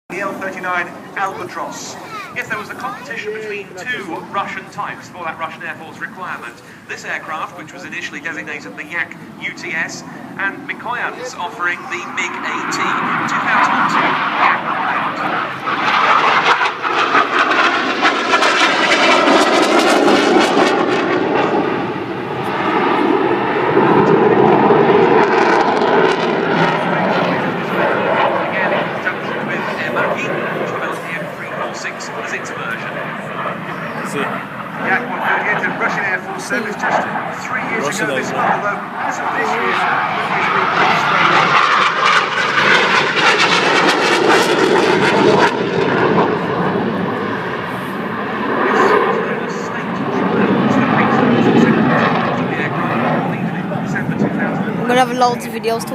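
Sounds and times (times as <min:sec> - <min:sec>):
jet engine in flight: 0:00.1 - 0:55.9.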